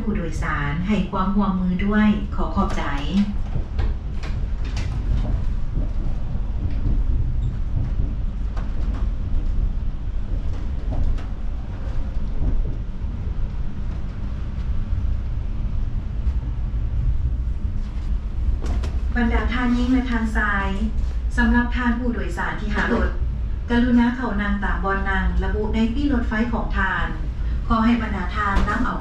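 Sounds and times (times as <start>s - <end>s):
train cabin low rumble: 0.0s - 29.0s.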